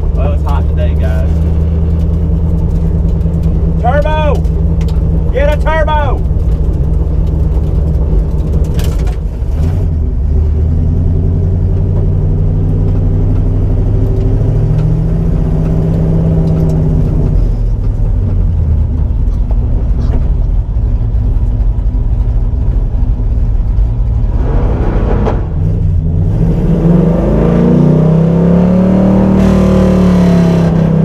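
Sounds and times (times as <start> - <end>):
car engine running: 0.0 - 30.8.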